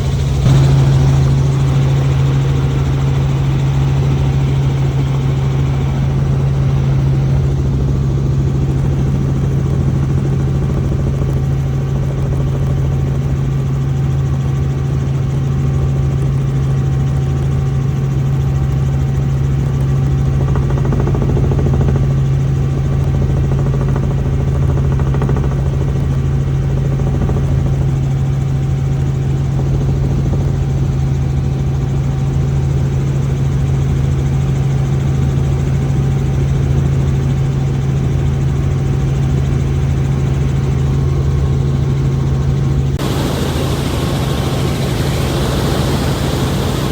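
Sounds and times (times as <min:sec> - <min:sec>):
helicopter engine and rotors: 0:00.0 - 0:46.9.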